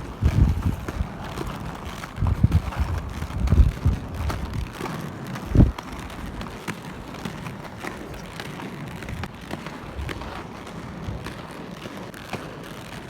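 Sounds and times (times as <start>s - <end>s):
roller skate wheels rolling: 0.0s - 13.0s.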